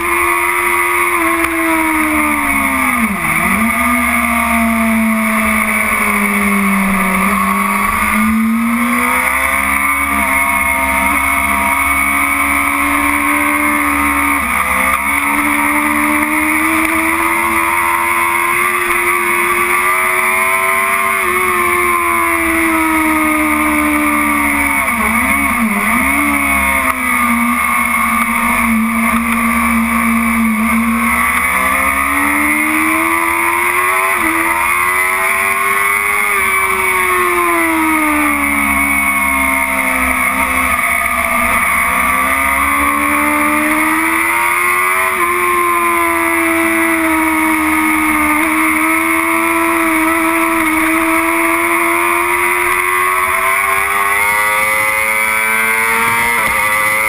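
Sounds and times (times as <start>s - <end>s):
engine throttle blips: 0.0s - 57.0s
motorcycle engine at racing speed: 0.0s - 57.0s.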